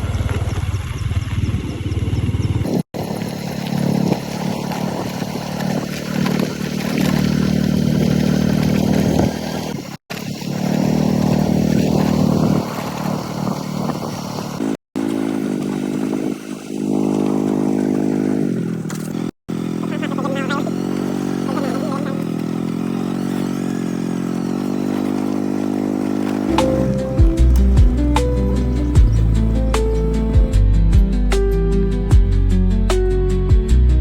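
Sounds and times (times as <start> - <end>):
small motorcycle engine running: 0.0 - 30.7.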